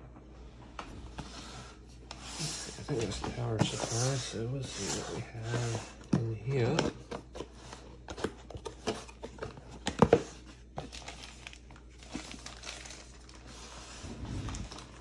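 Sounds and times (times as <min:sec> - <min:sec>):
packaging crinkling and rustling: 0:02.8 - 0:15.0.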